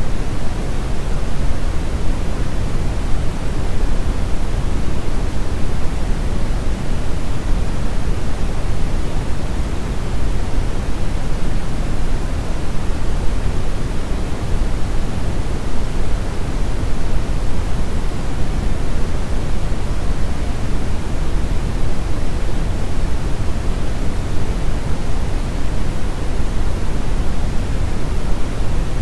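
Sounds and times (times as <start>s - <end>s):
brown noise hiss-rumble: 0.0s - 29.0s.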